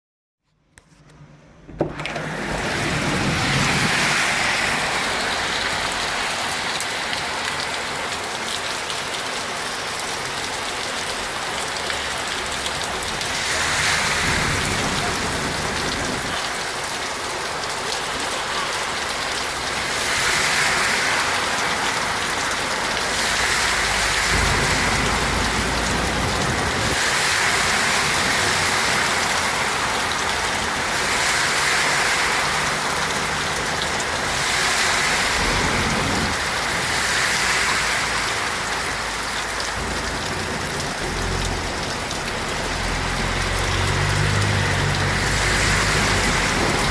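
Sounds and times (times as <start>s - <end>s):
heavy rain pouring: 1.9s - 46.9s.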